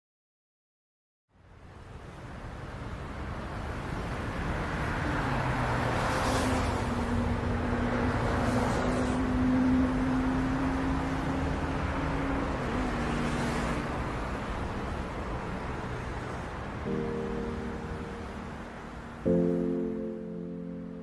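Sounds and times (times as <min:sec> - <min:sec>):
road traffic noise: 0:01.3 - 0:21.0.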